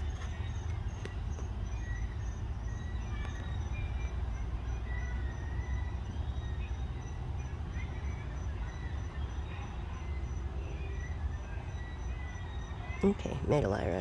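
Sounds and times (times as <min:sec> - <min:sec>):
faint bird chirps: 0:00.0 - 0:14.0
pulsing insect trill: 0:00.0 - 0:14.0.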